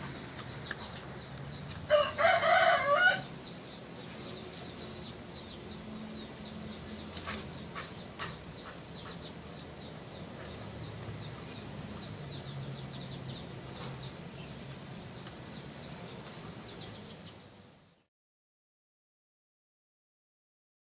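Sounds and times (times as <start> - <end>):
small birds chirping: 0.0 - 18.1.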